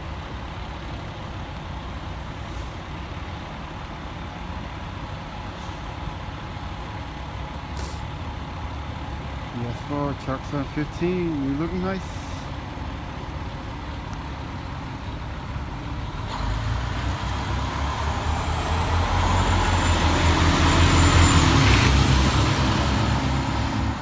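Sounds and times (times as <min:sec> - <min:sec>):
fire truck engine driving past: 0:00.0 - 0:24.0.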